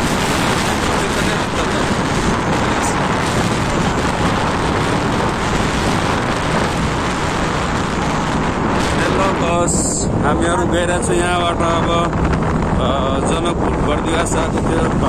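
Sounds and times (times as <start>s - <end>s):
highway road noise: 0.0s - 15.0s
wind over microphone: 0.0s - 15.0s.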